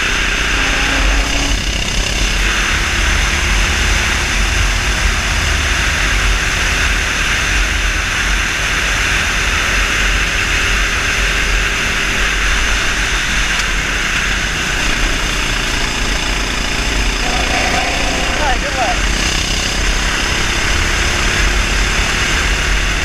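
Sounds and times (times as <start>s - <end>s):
kart engine running: 0.0s - 23.0s.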